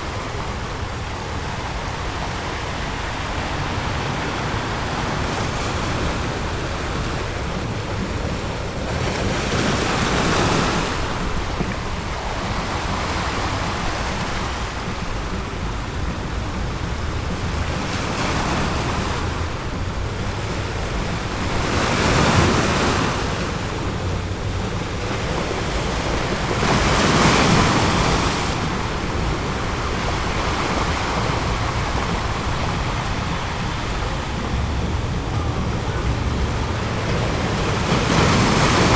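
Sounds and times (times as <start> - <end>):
ocean surf with waves breaking: 0.0 - 38.9.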